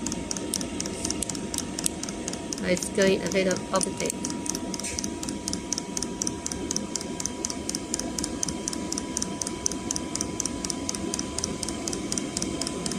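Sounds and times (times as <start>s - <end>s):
fuel pump rapid ticking: 0.0s - 12.9s
heater fan and burner whirring: 0.0s - 12.9s.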